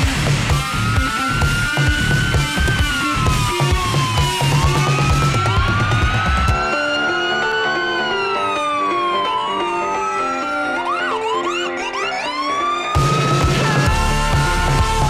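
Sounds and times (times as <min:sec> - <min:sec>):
ambulance siren wailing: 0:00.0 - 0:15.0
loud rock music: 0:00.0 - 0:15.0.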